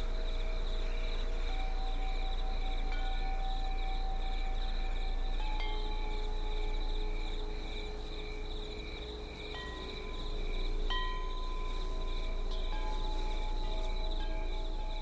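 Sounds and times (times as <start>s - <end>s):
night insects trilling: 0.0s - 15.0s
wind chimes ringing: 0.0s - 15.0s.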